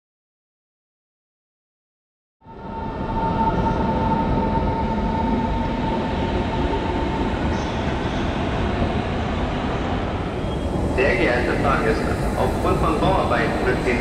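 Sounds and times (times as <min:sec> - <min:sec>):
electric train rumble: 0:02.4 - 0:14.0.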